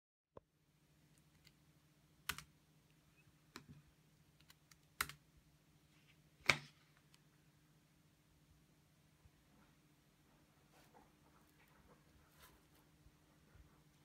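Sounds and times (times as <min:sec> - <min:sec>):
faint low hum: 0:00.4 - 0:14.0.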